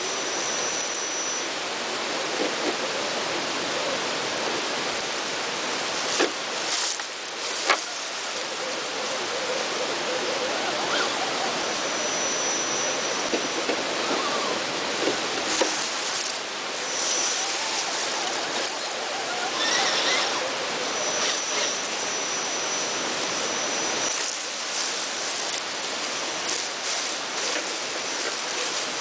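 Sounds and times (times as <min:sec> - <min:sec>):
thin high whine: 0:00.0 - 0:29.0
running water rushing: 0:00.2 - 0:29.0.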